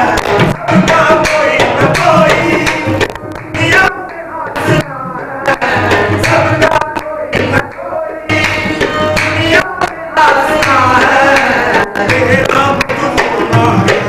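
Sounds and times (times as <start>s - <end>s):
tabla drumming: 0.0s - 14.0s
voices singing: 0.0s - 14.0s.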